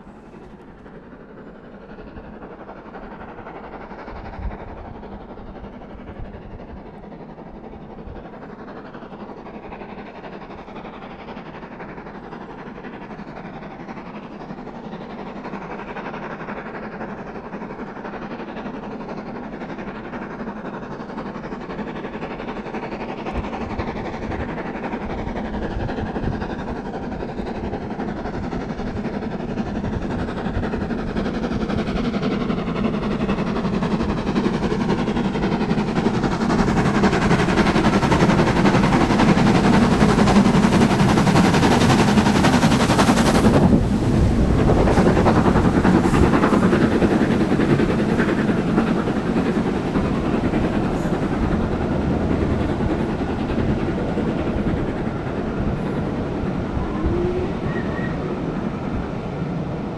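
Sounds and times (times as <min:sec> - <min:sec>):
steam locomotive exhaust chatter: 0:00.0 - 0:59.9.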